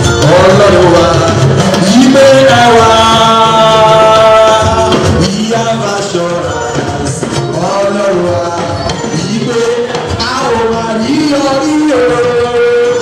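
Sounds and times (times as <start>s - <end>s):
choir singing over loudspeakers: 0.0s - 13.0s
drums keeping rhythm: 0.0s - 13.0s.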